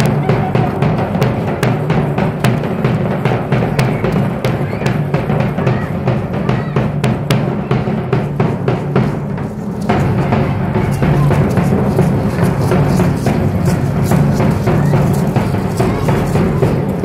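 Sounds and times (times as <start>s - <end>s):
drums beating fast dance rhythm: 0.0s - 17.0s.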